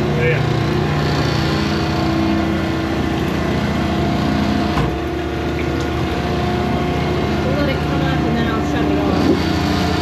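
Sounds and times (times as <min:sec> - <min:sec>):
barn machinery humming: 0:00.0 - 0:10.0.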